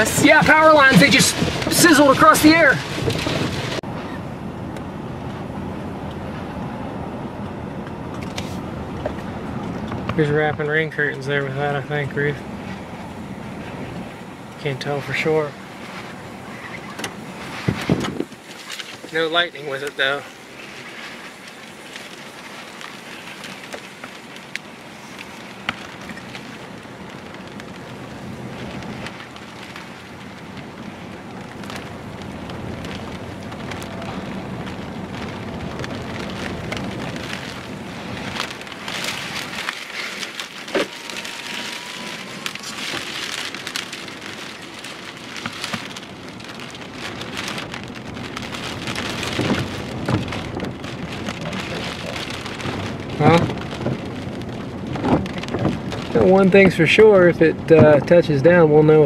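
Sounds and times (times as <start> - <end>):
sharp raindrop hits: 0.0 - 6.5, 7.8 - 59.0
rain pattering on car windshield: 0.0 - 59.0.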